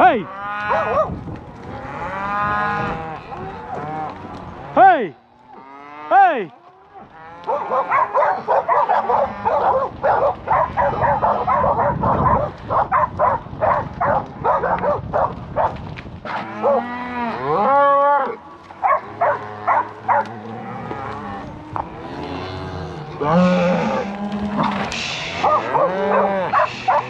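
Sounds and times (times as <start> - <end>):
cattle bawling and mooing: 0.0 - 15.7, 16.3 - 27.0.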